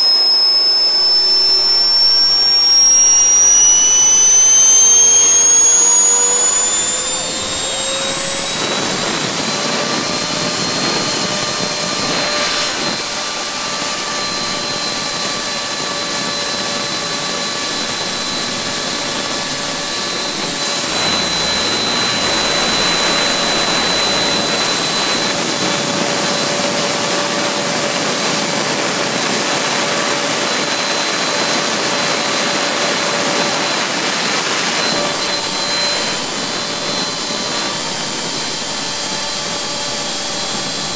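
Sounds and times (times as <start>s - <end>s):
turbojet engine whine: 0.0s - 40.9s.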